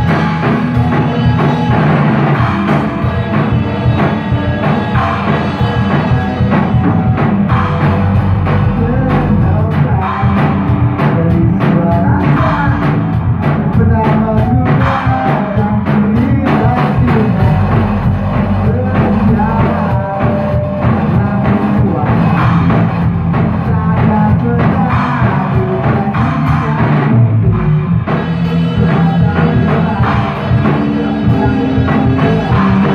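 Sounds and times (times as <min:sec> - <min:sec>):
distorted electric guitars: 0:00.0 - 0:32.9
drum kit beats: 0:00.0 - 0:32.9
rock band playing live: 0:00.0 - 0:32.9.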